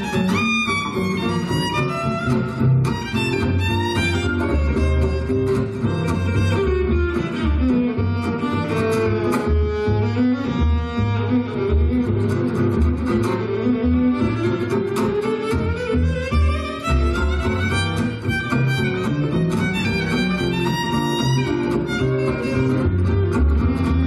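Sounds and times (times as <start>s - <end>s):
sustained low bass notes: 0.0s - 24.0s
violin melody: 0.0s - 24.0s.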